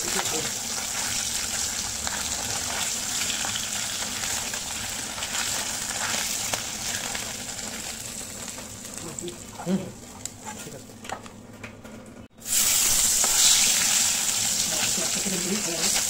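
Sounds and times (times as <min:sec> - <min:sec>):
fish sizzling in hot oil: 0:00.0 - 0:10.3, 0:12.4 - 0:16.0.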